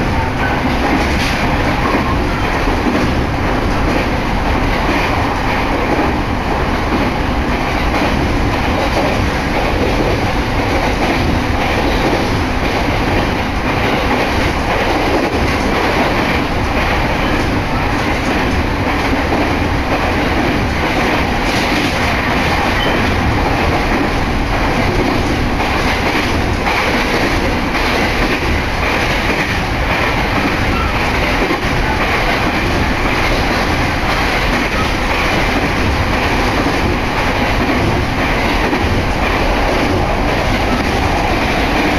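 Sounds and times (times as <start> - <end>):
train wheels rolling on rails: 0.0 - 41.9.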